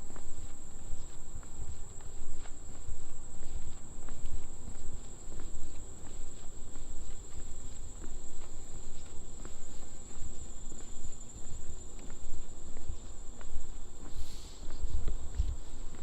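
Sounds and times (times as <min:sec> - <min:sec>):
footsteps on trail: 0:00.0 - 0:16.0
crickets trilling: 0:00.1 - 0:16.0.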